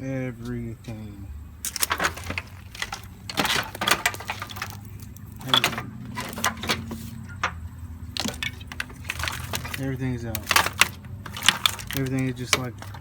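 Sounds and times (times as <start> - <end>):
plastic connectors clicking and rattling: 1.6 - 13.0.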